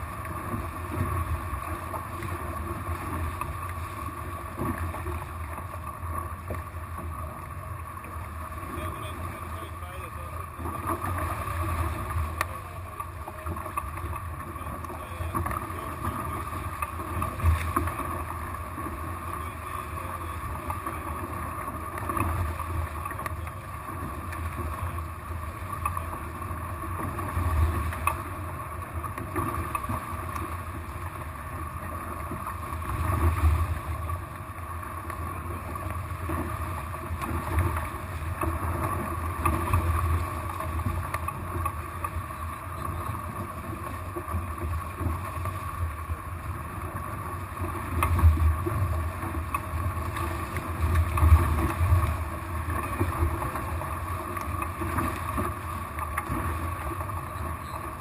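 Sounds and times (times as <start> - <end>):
water rushing past hulls: 0.0 - 58.0.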